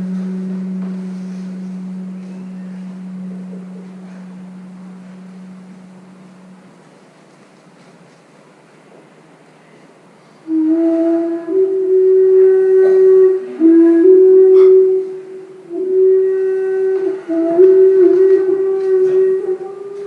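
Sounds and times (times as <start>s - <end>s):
flute-like wind instrument tune: 0.0s - 7.0s, 10.4s - 20.0s.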